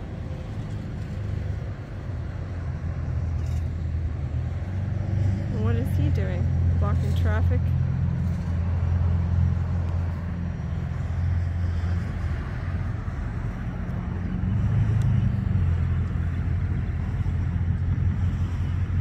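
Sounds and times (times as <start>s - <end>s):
vehicle engines and traffic rumble: 0.0s - 19.0s.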